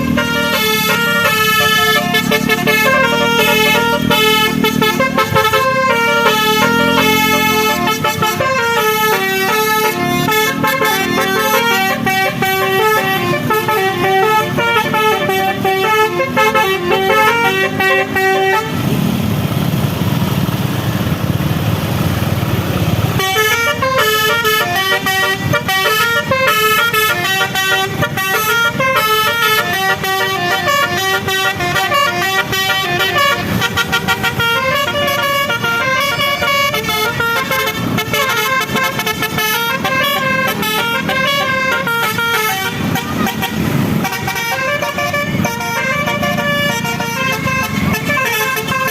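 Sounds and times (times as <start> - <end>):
musical air horn playing a tune: 0.0 - 19.0, 23.2 - 48.9.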